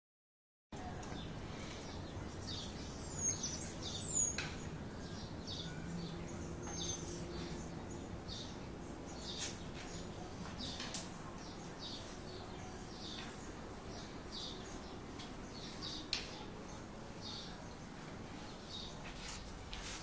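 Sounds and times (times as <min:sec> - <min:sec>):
small birds chirping: 0:00.8 - 0:20.0.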